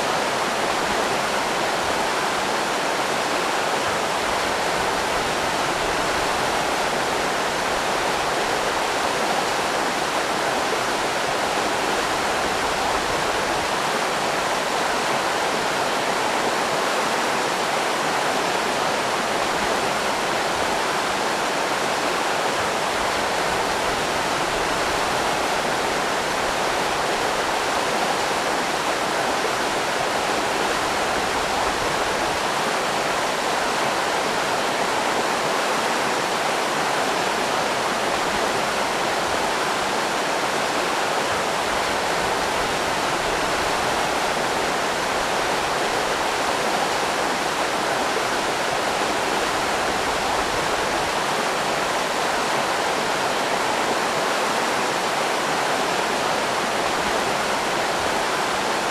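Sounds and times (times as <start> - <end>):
river rapids rushing: 0.0 - 58.9.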